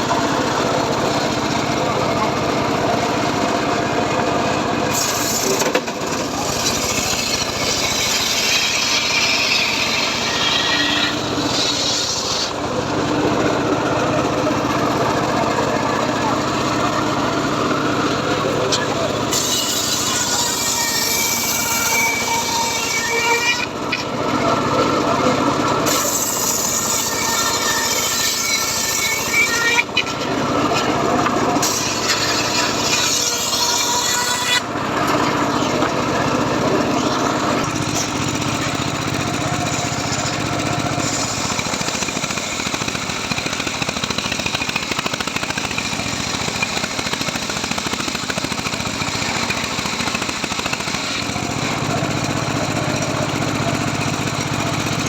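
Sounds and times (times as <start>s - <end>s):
engine running: 0.0s - 55.0s
saw blade whining through wood: 0.0s - 55.0s.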